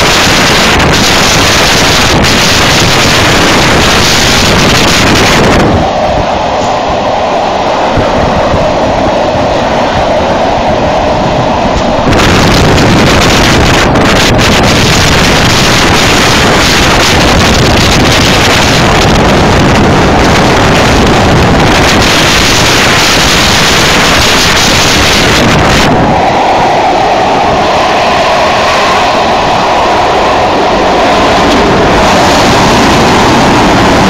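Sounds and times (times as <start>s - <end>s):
train rumble: 0.0s - 34.0s
wind buffeting microphone: 0.0s - 34.0s.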